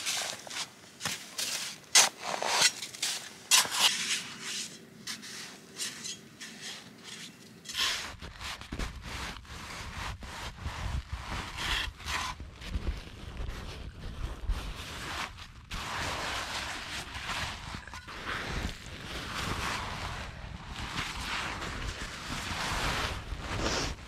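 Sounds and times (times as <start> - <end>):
rubbing and scraping strokes: 0.0 - 24.0.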